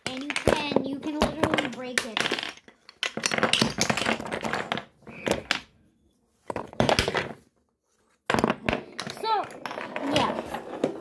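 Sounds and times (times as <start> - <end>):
toy blocks knocking and clattering: 0.0 - 5.8, 6.5 - 7.5, 8.2 - 11.0.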